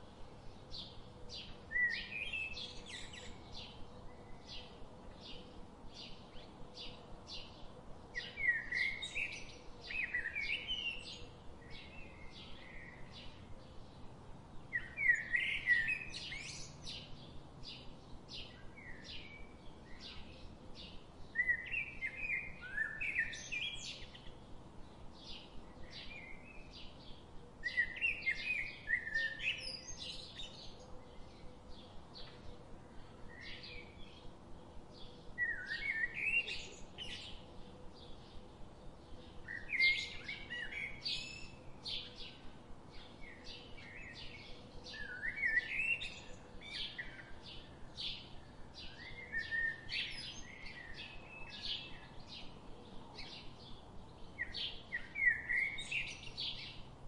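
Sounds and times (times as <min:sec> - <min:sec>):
bird chirping: 0:00.0 - 0:57.0
bird song phrase: 0:00.0 - 0:57.0.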